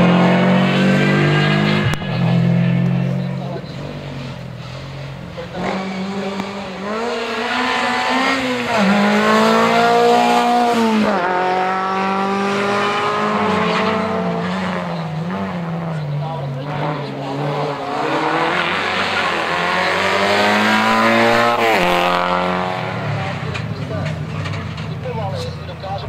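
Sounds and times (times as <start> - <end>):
rally car engine revving past: 0.0 - 24.8.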